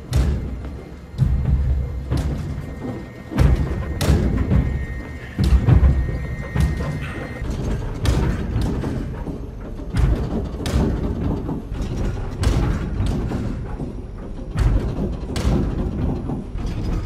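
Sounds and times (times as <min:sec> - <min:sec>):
heavy knocks and thumps: 0:00.0 - 0:17.0
washing machine rumbling: 0:00.0 - 0:17.0.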